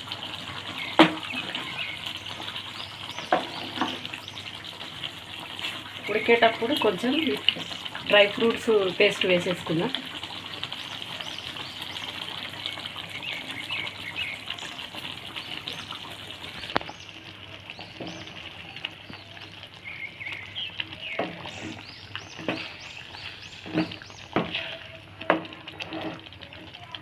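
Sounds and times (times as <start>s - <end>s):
curry simmering and spluttering: 0.0s - 27.0s
faint birds chirping: 0.3s - 8.4s, 10.4s - 25.2s.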